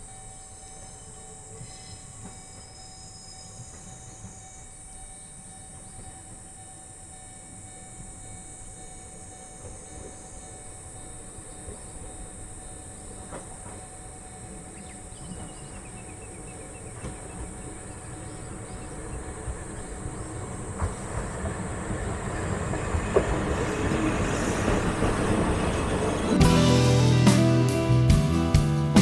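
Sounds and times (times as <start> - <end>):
diesel railcar rumble: 0.0 - 29.0.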